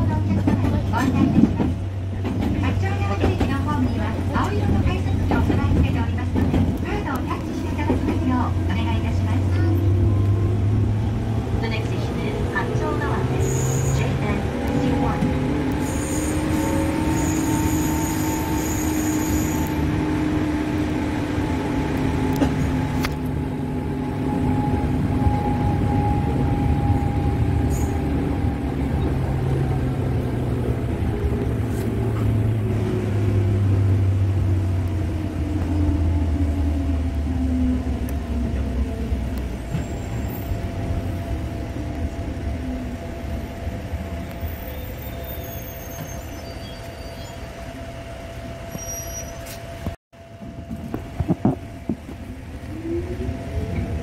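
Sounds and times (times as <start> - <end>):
train motor humming: 0.0 - 44.6, 49.5 - 54.0
train wheels rumbling on rails: 0.0 - 54.0.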